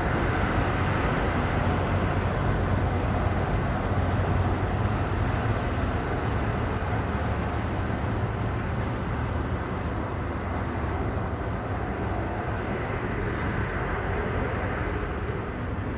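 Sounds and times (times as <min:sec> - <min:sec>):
diesel train low drone: 0:00.0 - 0:15.9.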